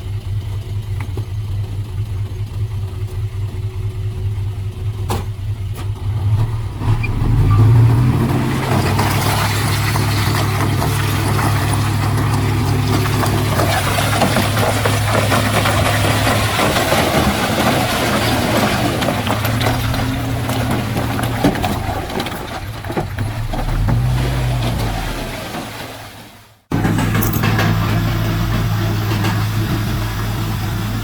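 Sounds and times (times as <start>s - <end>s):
diesel earthmoving machinery running: 0.0s - 31.0s.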